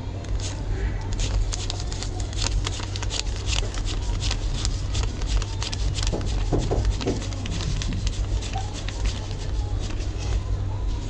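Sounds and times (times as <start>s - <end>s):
paper banknotes rustling: 0.3s - 10.4s.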